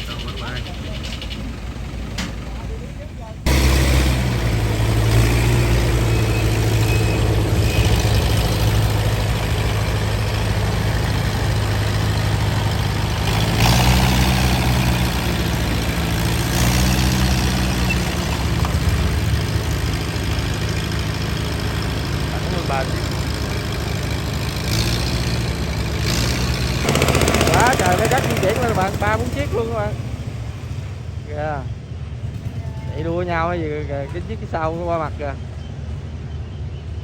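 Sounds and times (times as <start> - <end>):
combine harvester diesel engine: 0.0 - 37.0.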